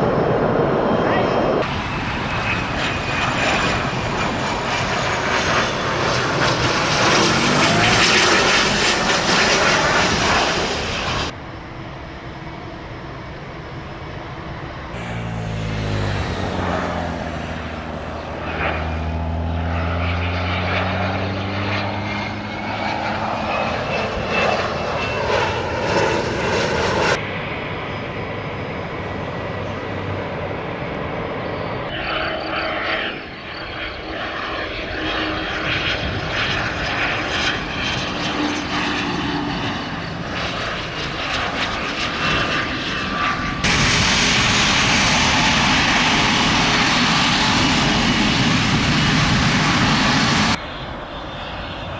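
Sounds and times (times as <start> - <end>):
jet engines: 0.0 - 51.9.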